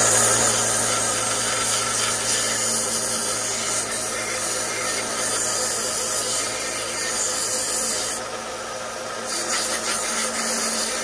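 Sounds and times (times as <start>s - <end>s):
grinding hiss on metal: 0.0s - 8.4s, 9.2s - 11.0s
belt sander motor hum: 0.0s - 11.0s.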